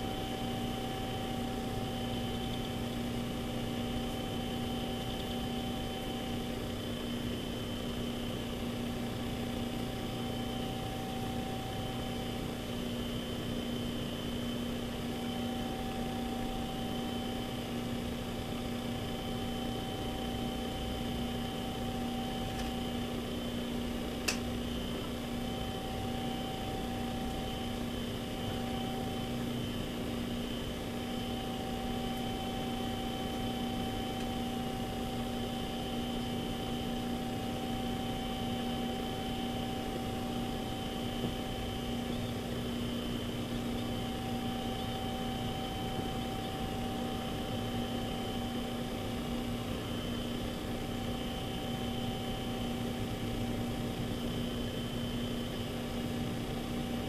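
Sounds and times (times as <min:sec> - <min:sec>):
electrical hum and hiss: 0:00.0 - 0:57.0.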